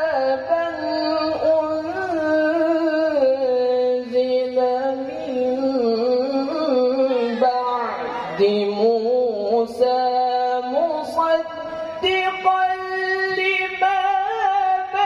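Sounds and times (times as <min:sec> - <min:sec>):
man chanting through microphone: 0:00.0 - 0:15.0.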